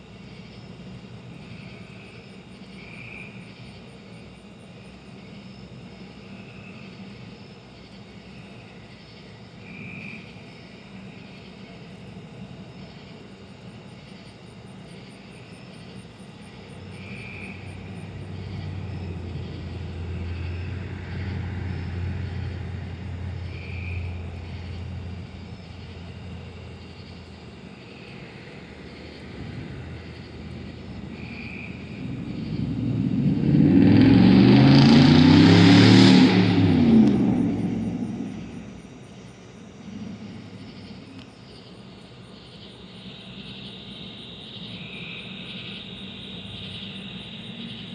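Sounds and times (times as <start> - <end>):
low-flying aircraft engine drone: 0.0 - 47.9.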